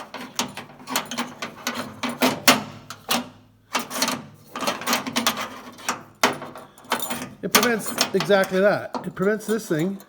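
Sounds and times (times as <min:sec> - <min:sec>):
metal latch rattling: 0:00.0 - 0:10.0.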